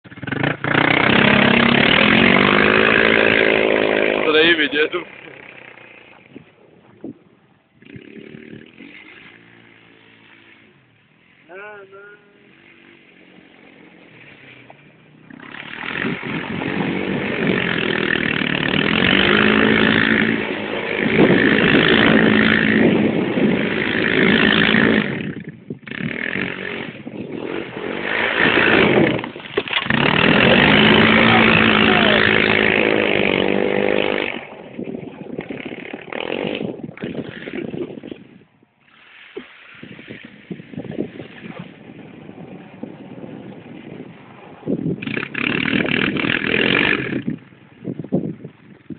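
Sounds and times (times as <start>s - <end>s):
quad bike engine revving: 0.0s - 6.8s, 7.7s - 48.9s.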